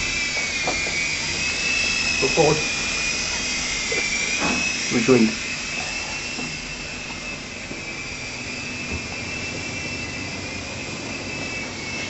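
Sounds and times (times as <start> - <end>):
high motor whine: 0.0 - 12.0
rotors hissing: 0.0 - 12.0.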